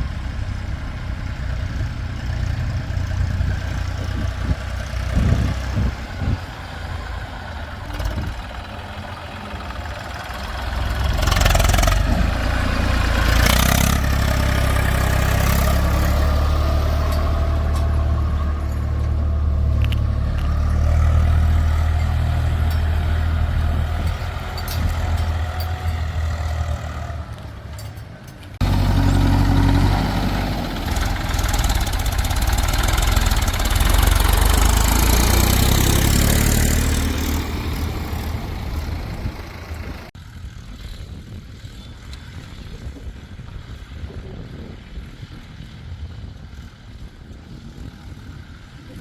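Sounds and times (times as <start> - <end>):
heavy diesel machinery engines: 0.0 - 49.0.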